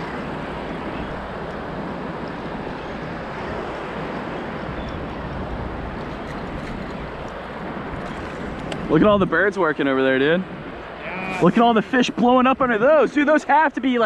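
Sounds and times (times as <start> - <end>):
wind on microphone: 0.0 - 12.8
surf: 0.0 - 14.0.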